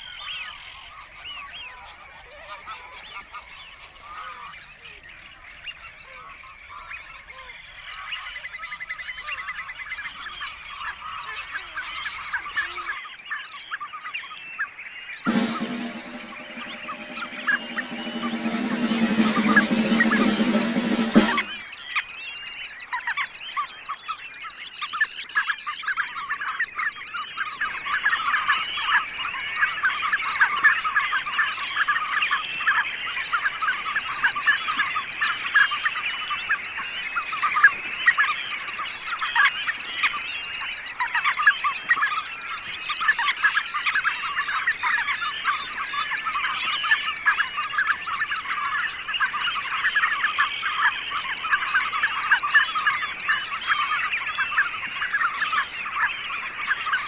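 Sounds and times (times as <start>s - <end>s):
flock of birds calling: 0.0s - 57.0s.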